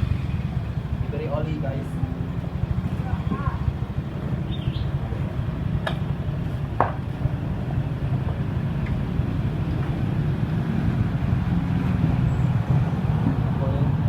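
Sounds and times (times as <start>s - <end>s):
passing motor traffic rumble: 0.0s - 14.0s.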